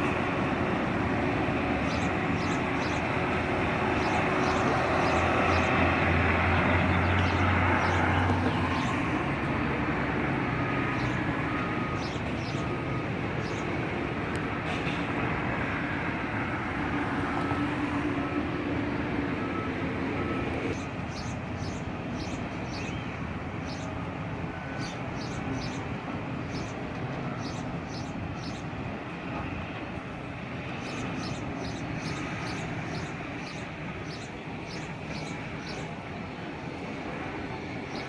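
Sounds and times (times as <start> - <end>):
construction machinery rumble: 0.0 - 38.0.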